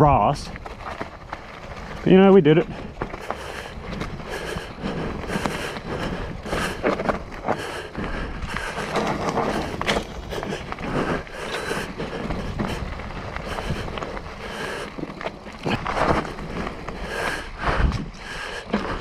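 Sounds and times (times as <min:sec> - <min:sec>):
bike knocking and rattling: 0:00.0 - 0:19.0
tyres crunching over dirt and rocks: 0:00.0 - 0:19.0.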